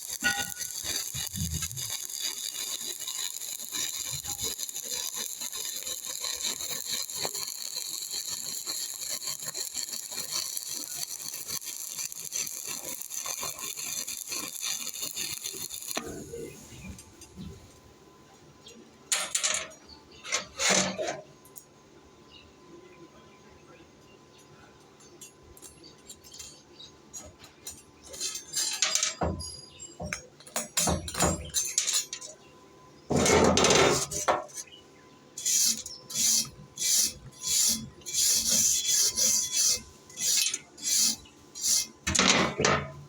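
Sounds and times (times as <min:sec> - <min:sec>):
welding arc crackling sizzle: 0:00.0 - 0:18.0, 0:25.0 - 0:32.4, 0:33.1 - 0:43.0.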